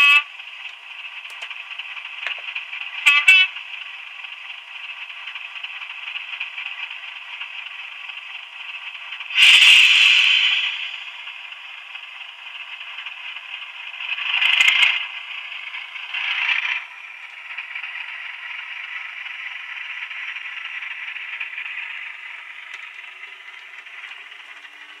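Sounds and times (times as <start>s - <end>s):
tinny diesel engine sound from speaker: 0.0s - 25.0s.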